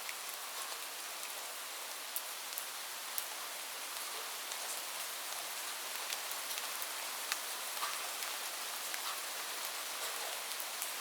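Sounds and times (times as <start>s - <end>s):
raindrops ticking on surface: 0.0s - 11.0s
steady rain: 0.0s - 11.0s.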